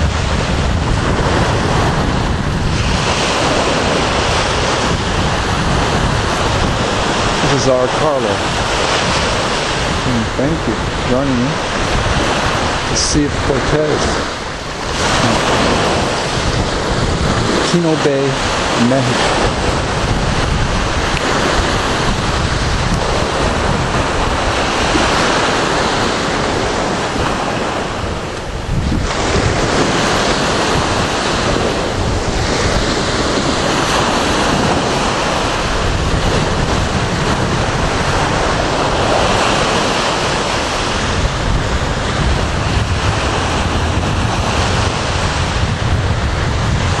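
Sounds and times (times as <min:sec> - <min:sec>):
small waves breaking on sand: 0:00.0 - 0:47.0
wind buffeting the microphone: 0:00.0 - 0:47.0.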